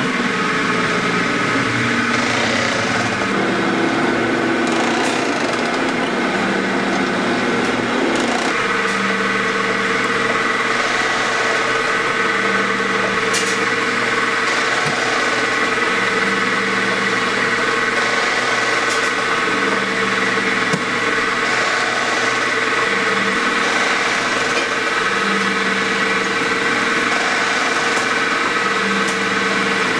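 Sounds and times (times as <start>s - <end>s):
machine motor hum: 0.0s - 29.9s.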